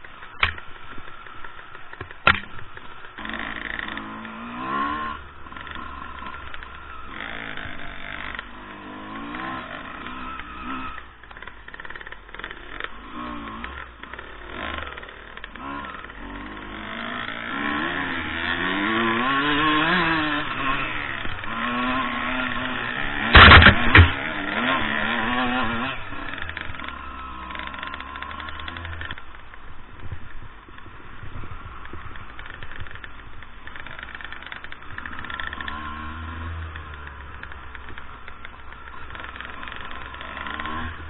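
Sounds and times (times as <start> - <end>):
dirt bike engine revving: 0.0 - 29.6, 30.7 - 41.0.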